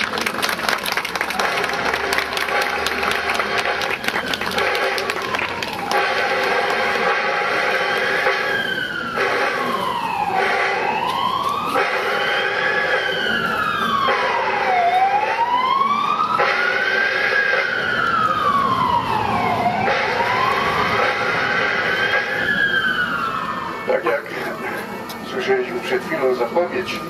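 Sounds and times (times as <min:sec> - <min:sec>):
siren wailing: 0:02.5 - 0:27.0.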